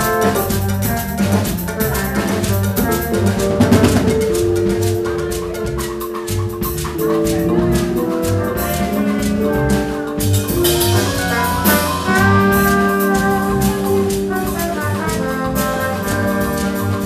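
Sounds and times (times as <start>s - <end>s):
instrumental band playing: 0.0s - 17.0s.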